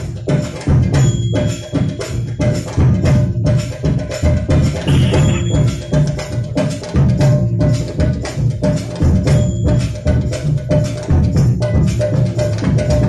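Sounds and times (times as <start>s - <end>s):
deep drum beats: 0.0s - 13.0s
sharp clicking percussion hits: 0.6s - 13.0s.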